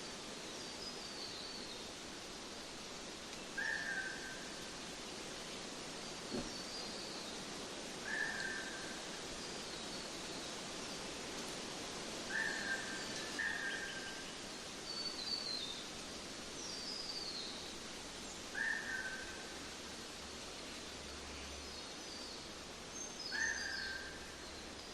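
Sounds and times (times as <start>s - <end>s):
outdoor hiss: 0.0s - 24.9s.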